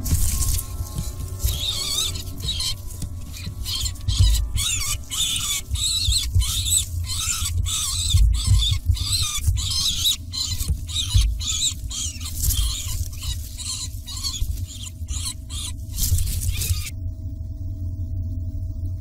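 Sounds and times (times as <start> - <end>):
low rumble: 0.0 - 19.0
falcon alarm calls: 0.2 - 16.9.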